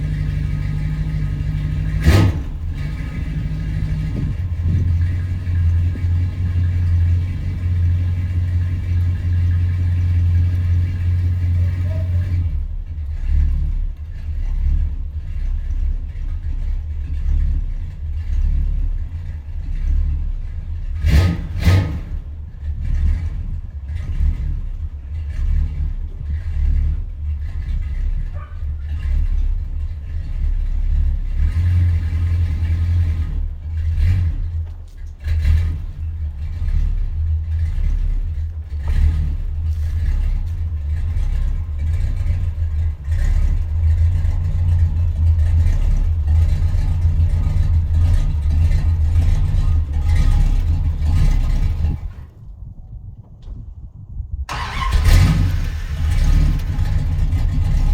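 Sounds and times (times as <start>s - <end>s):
car engine running deep and uneven: 0.0s - 57.9s.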